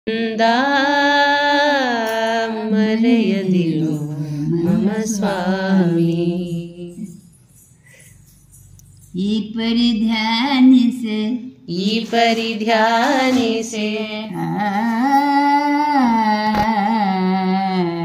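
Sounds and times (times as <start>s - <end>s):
elderly man singing unaccompanied: 0.1s - 7.2s, 9.1s - 18.0s.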